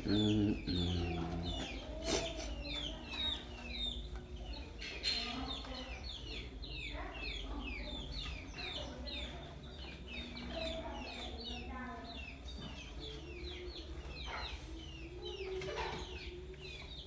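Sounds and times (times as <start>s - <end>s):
chickens chirping: 0.0s - 17.0s.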